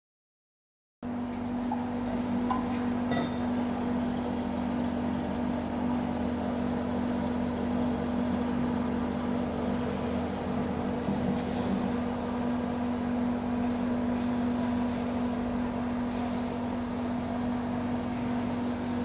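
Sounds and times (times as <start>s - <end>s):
shaved ice machine humming: 1.1s - 19.0s.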